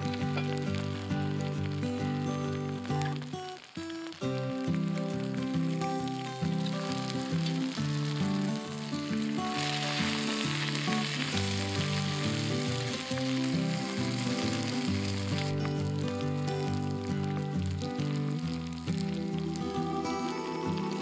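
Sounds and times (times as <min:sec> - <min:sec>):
background music: 0:00.0 - 0:21.0
meat sizzling in a pot: 0:00.0 - 0:21.0.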